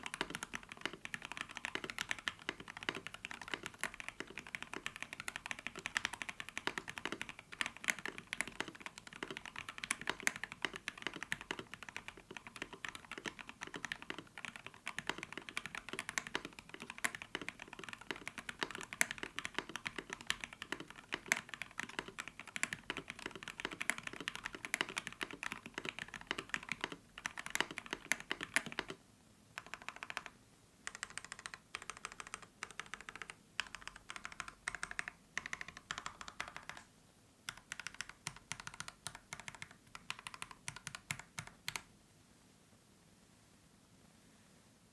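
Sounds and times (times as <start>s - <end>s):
fast mechanical keyboard typing: 0.0s - 29.0s, 29.6s - 30.3s, 30.9s - 36.9s, 37.5s - 41.9s.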